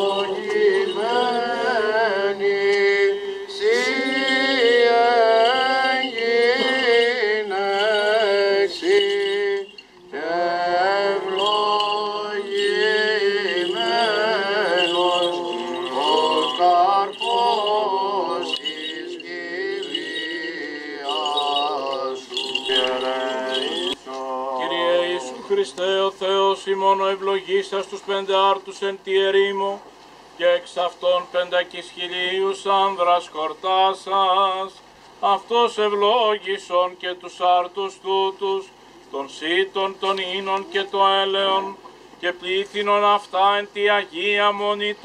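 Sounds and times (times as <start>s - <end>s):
men chanting a hymn: 0.0s - 29.8s, 30.4s - 45.0s
held vocal drone: 0.0s - 45.0s.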